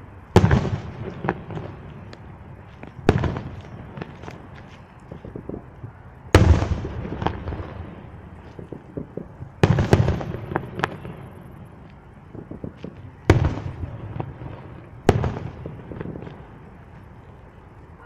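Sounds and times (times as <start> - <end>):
firework booms: 0.4 - 5.6, 6.3 - 16.7
firework crackling pops: 0.4 - 17.5.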